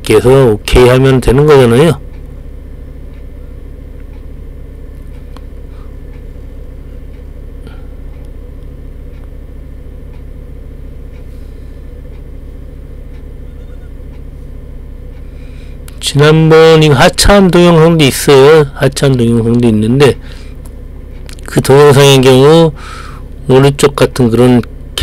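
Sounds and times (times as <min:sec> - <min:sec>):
forklift engine running: 0:00.0 - 0:25.0.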